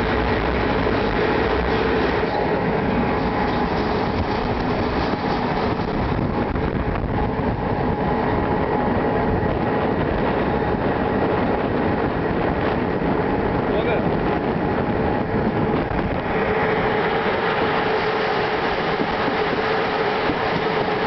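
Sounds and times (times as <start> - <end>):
train running on track: 0.0 - 21.0.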